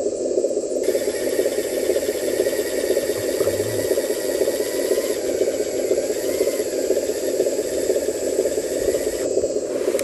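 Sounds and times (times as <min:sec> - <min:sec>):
hydraulic pump buzzing: 0:00.8 - 0:10.0.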